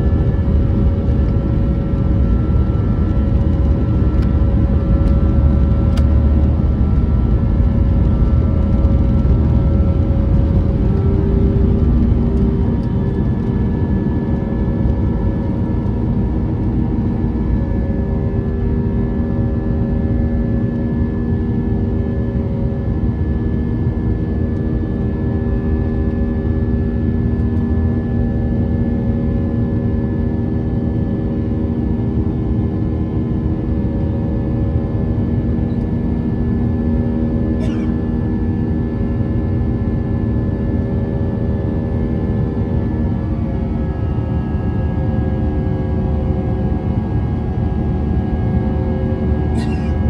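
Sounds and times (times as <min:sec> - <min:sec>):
jet engines rumbling in flight: 0:00.0 - 0:50.0.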